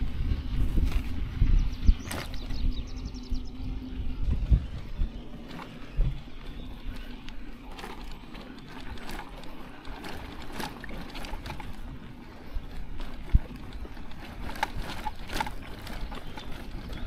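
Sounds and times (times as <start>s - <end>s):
bicycle gear rattling: 0.0s - 17.0s
bicycle rolling on dirt track: 0.0s - 17.0s.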